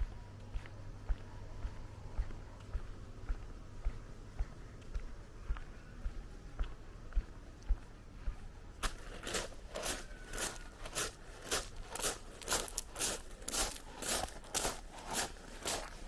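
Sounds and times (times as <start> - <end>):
footsteps crunching on pebbles: 0.0 - 16.0.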